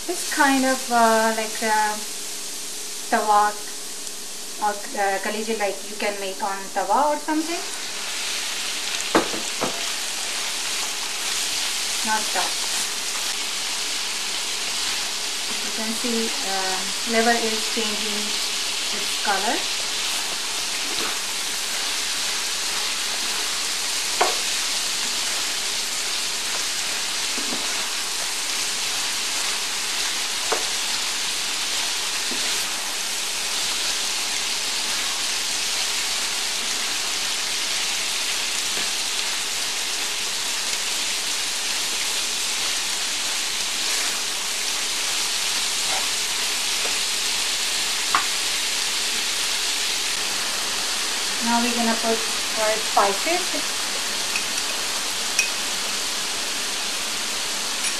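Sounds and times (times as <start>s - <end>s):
liver sizzling in hot oil: 0.0s - 57.9s.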